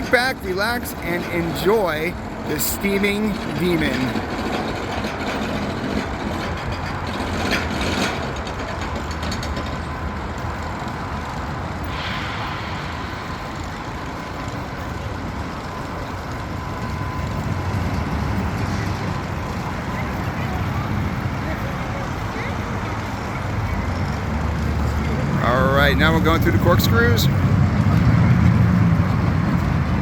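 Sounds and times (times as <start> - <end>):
roller coaster clatter: 0.0 - 30.0
roller coaster running on track: 0.0 - 30.0.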